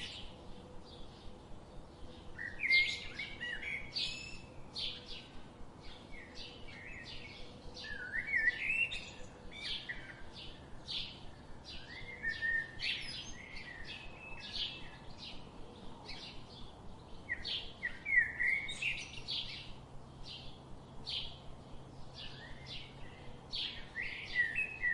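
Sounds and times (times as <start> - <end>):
birds chirping and singing: 0.0 - 24.9.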